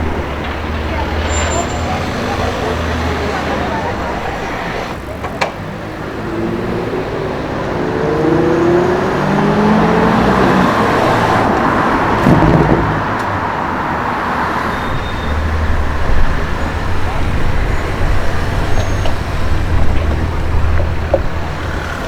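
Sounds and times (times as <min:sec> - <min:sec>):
exhaust crack: 0:00.0 - 0:07.8, 0:08.6 - 0:22.0
car engine accelerating: 0:00.0 - 0:22.0.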